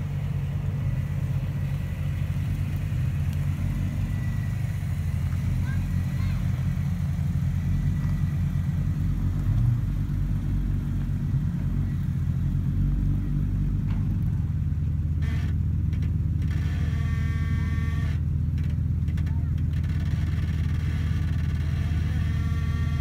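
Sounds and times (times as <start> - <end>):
car engine running low: 0.0 - 23.0.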